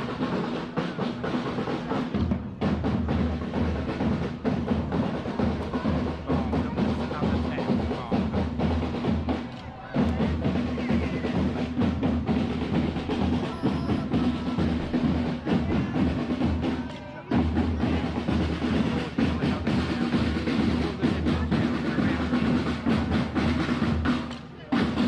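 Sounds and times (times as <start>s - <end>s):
drums playing with rolls: 0.0s - 25.0s.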